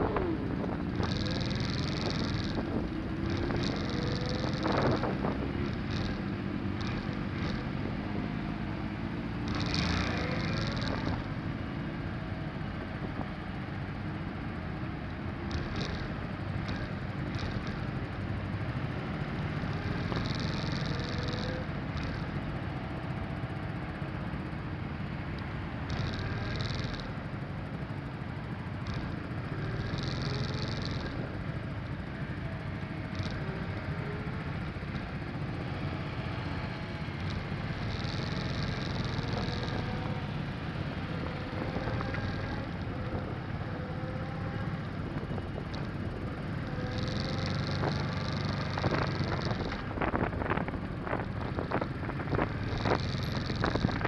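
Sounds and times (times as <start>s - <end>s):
motorcycle engines running: 0.0s - 54.0s.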